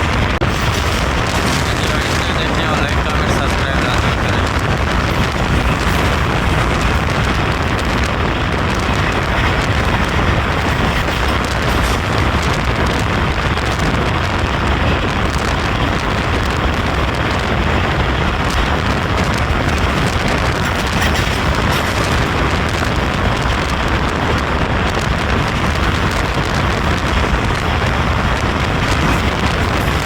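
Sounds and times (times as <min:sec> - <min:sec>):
moving train rumbling: 0:00.0 - 0:30.0.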